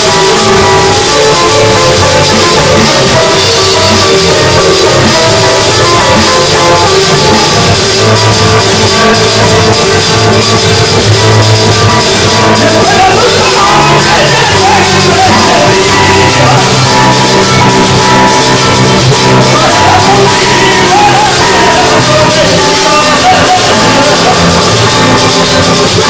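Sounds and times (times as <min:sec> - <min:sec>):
drum kit: 0:00.0 - 0:26.0
guitar: 0:00.0 - 0:26.0
live church band music: 0:00.0 - 0:26.0.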